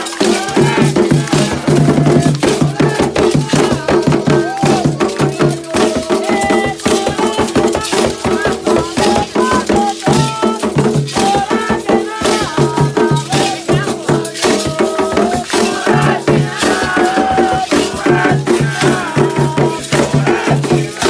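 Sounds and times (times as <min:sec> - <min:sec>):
drums playing fast rhythm: 0:00.0 - 0:21.0
shaken rattles: 0:00.0 - 0:21.0.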